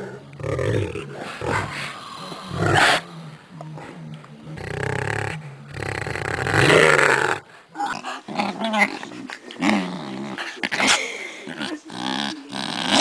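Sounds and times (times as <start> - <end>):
small dog growling: 0.0 - 13.0.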